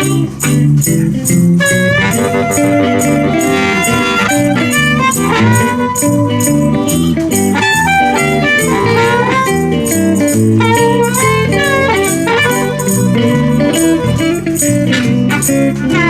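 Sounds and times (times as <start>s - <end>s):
electric blues band playing: 0.0s - 16.0s
lead guitar with bent notes: 0.0s - 16.0s.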